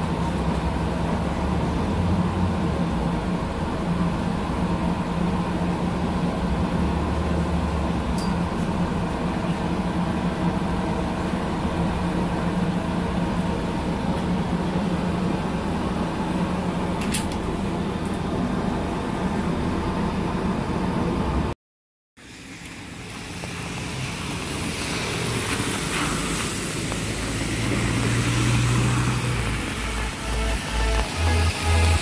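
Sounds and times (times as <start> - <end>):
tyres hissing on wet road: 0.0 - 20.1, 22.2 - 32.0
bus engine idling: 0.0 - 21.6, 22.3 - 32.0
bus pulling away: 0.0 - 21.6, 22.2 - 32.0.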